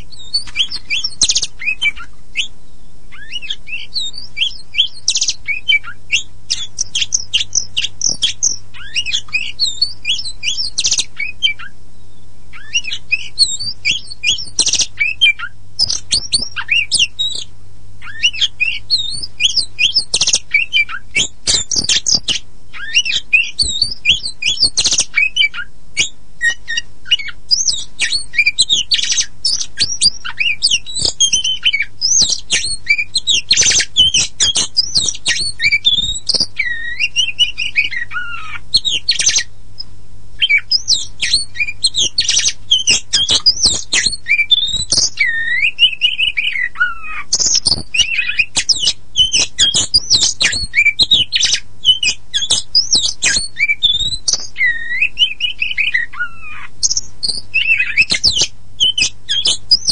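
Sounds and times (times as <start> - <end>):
bird singing whistles and trills: 0.0 - 39.5, 40.4 - 59.9.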